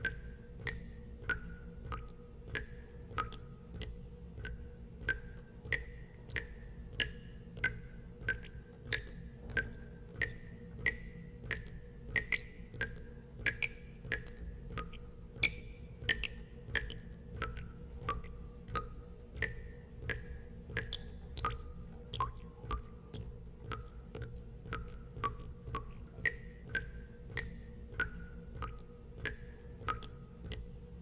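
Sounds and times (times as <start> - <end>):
steady low hum: 0.0 - 31.0
water drops plinking into water: 0.0 - 31.0.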